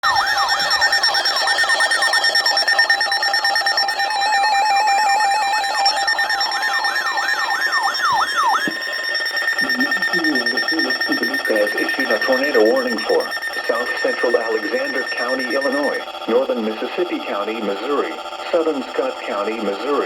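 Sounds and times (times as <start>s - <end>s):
electronic tone sweeping down: 0.0s - 20.0s
steady high tones: 0.0s - 20.0s.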